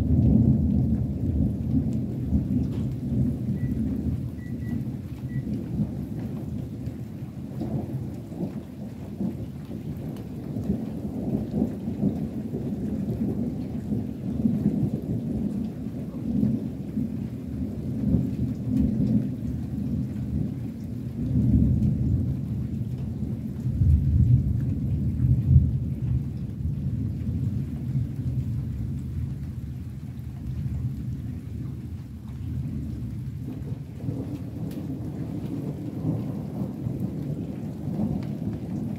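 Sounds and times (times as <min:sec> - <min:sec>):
distant thunder rumbling: 0:00.0 - 0:38.9.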